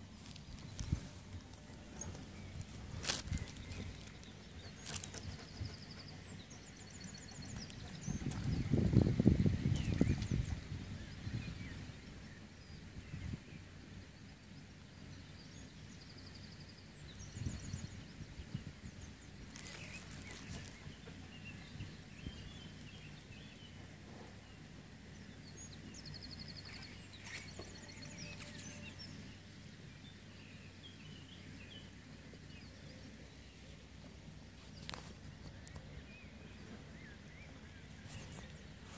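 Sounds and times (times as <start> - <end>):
low outdoor rumble: 0.0 - 38.9
small birds chirping and trilling: 0.0 - 38.9.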